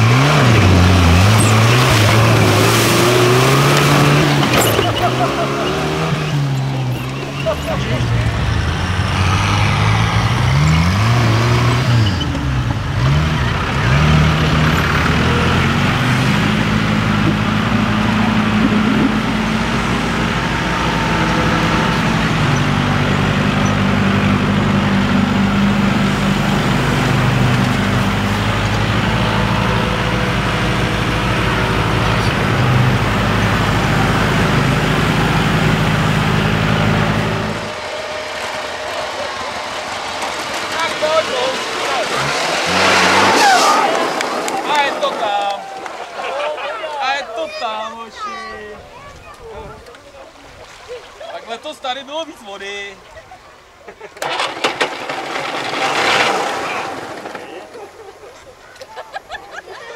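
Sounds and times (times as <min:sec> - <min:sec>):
tractor engine running: 0:00.0 - 0:47.1, 0:53.2 - 0:59.8.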